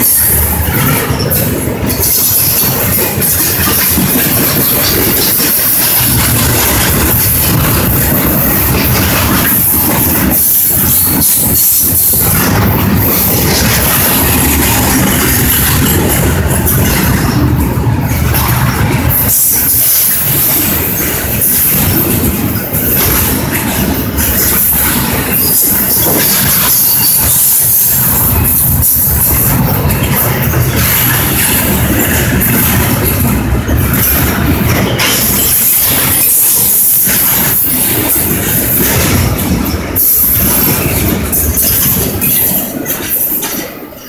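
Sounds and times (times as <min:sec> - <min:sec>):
train wheels rumbling and clattering: 0:00.0 - 0:44.0.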